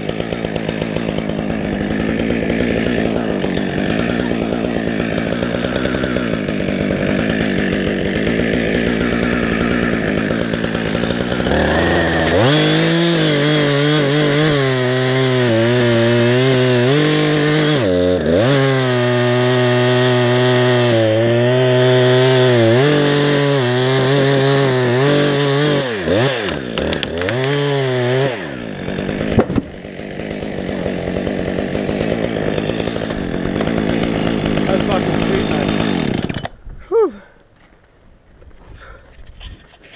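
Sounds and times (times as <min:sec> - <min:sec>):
chainsaw revving and cutting wood: 0:00.0 - 0:37.3.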